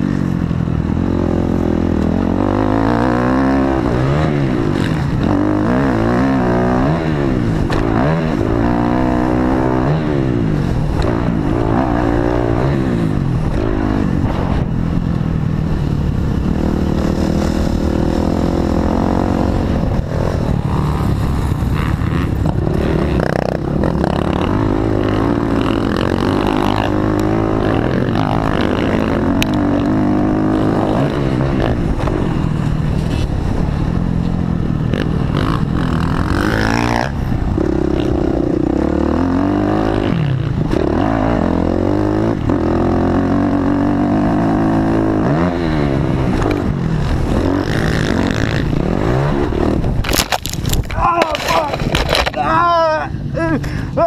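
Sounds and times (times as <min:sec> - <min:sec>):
dirt bike engine revving: 0:00.0 - 0:34.0, 0:34.6 - 0:53.8.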